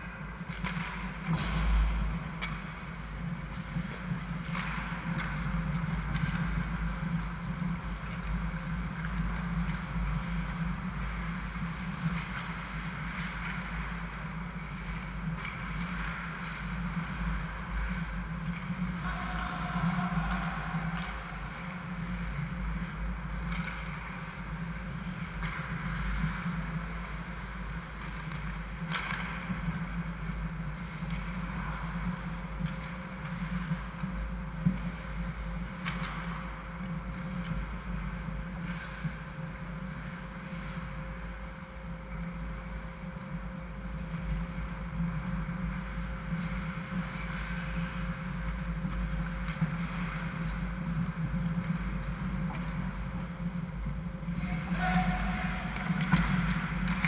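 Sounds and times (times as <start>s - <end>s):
faint sharp clicks of sticks or puck: 0.0s - 57.0s
low hum with faint tone: 0.0s - 57.0s.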